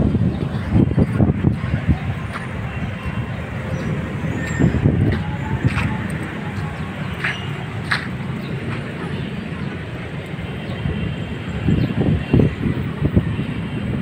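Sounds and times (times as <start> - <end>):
rumble of passing vehicles: 0.0 - 14.0.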